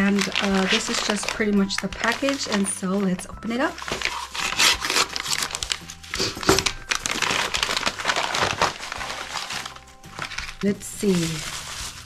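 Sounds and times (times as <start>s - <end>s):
package wrapping rustling: 0.0s - 12.0s.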